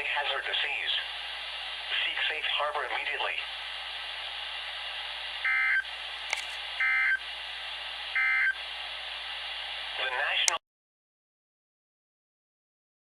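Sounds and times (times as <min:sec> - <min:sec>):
radio hiss: 0:00.0 - 0:10.6.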